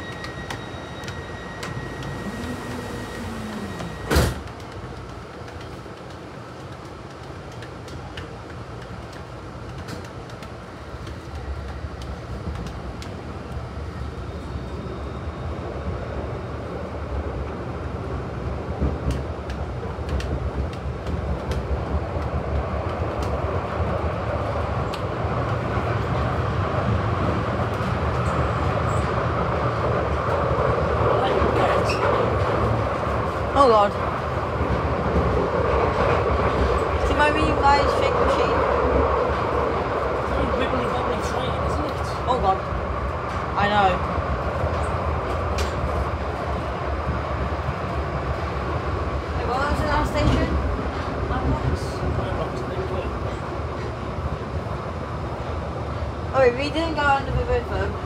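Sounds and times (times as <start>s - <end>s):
subway train rumbling and rattling: 0.0s - 58.0s.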